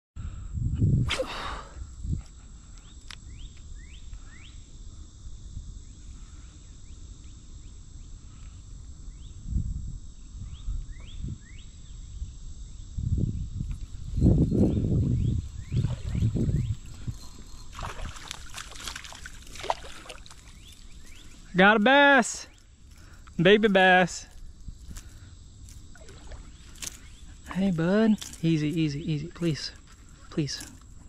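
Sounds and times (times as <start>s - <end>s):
continuous low rumble: 0.2s - 31.0s.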